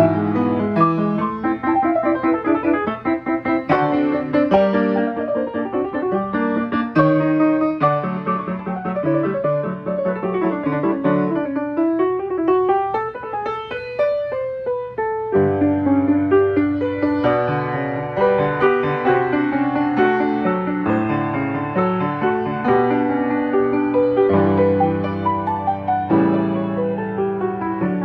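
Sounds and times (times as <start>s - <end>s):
player piano playing: 0.0s - 28.0s.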